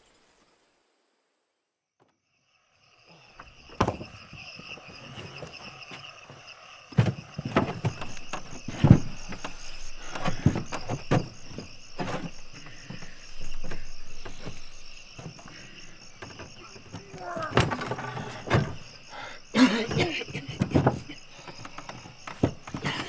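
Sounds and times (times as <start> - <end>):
crickets chirping: 0.0 - 23.0
knocks and clunks in wooden cart: 3.4 - 23.0.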